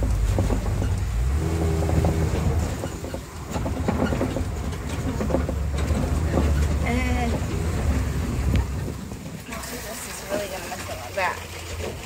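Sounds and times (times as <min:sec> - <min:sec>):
vehicle engine rumble: 0:00.0 - 0:12.0
vehicle rattles and knocks: 0:00.0 - 0:12.0.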